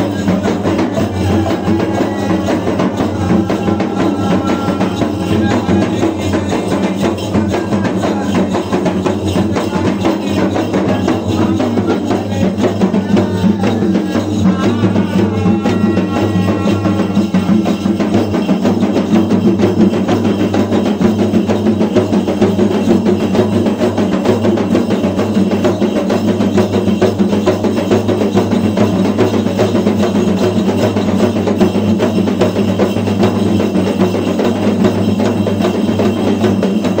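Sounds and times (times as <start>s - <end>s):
music with rapid drumming: 0.0s - 37.0s.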